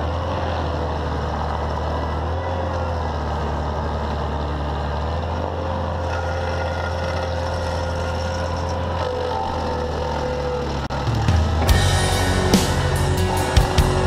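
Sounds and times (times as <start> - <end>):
stump grinder engine drone: 0.0 - 14.0
whine of spinning cutter wheel: 0.0 - 14.0.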